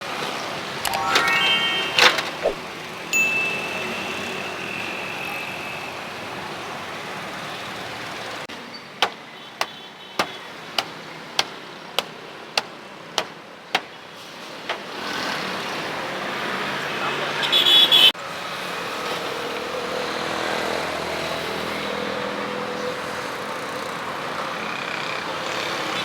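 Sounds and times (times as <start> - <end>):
street traffic noise: 2.6 - 26.0.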